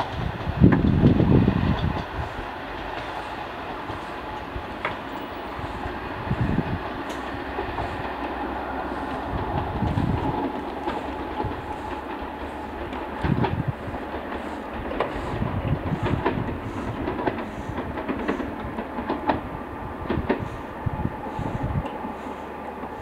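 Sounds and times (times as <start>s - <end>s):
train rumble: 0.0s - 23.0s
train wheels knocking on rail joints: 0.0s - 23.0s.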